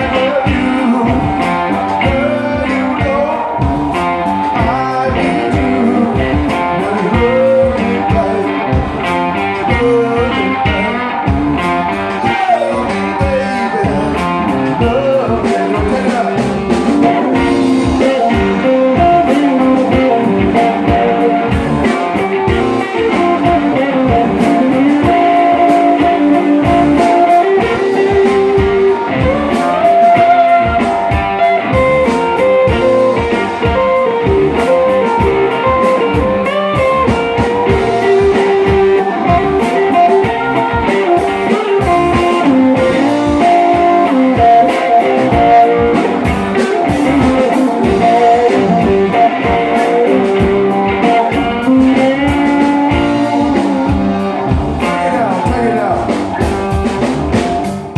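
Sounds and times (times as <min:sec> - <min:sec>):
blues-rock band playing: 0:00.0 - 0:57.9.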